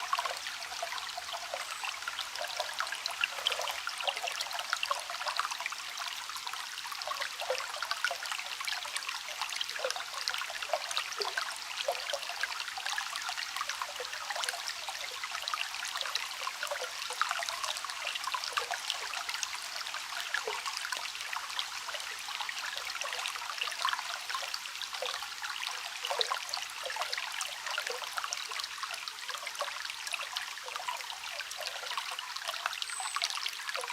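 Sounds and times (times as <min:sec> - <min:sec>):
stream trickling and babbling: 0:00.0 - 0:33.9.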